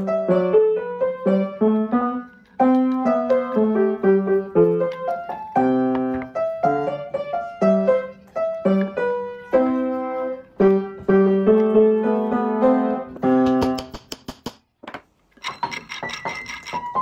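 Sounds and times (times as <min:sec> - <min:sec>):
slow piano music: 0:00.0 - 0:13.8.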